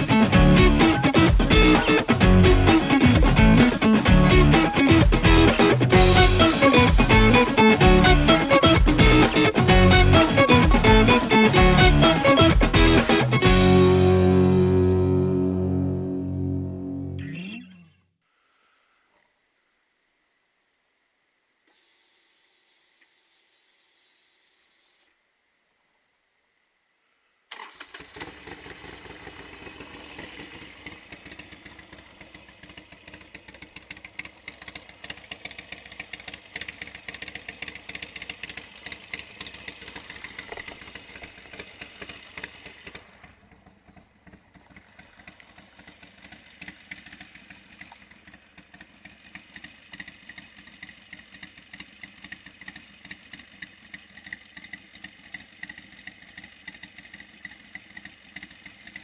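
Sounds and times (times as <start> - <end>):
motorcycle engine starting and running: 0.0 - 17.9, 27.5 - 59.0.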